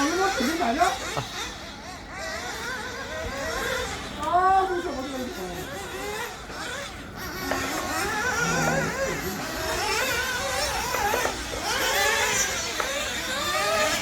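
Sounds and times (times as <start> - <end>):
rc buggy engines whining: 0.0 - 14.0.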